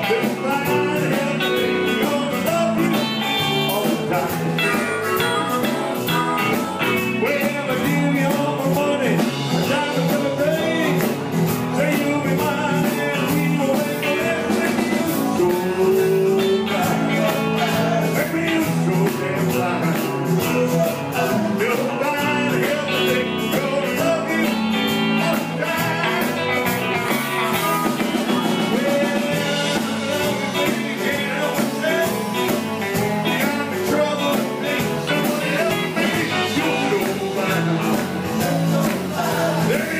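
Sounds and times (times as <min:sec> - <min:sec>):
electric guitar: 0:00.0 - 0:39.9
steady drum beat: 0:00.0 - 0:39.9.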